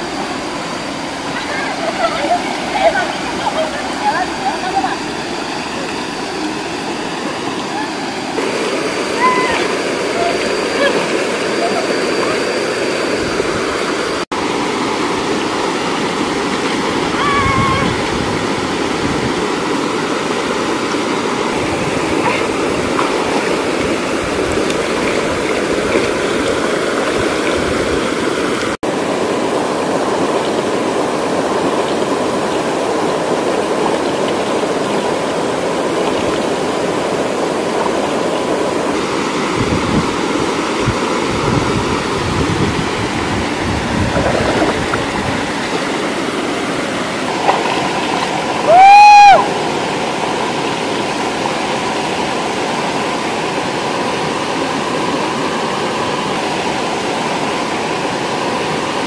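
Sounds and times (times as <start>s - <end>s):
stream and small waterfall rushing: 0.0s - 59.0s.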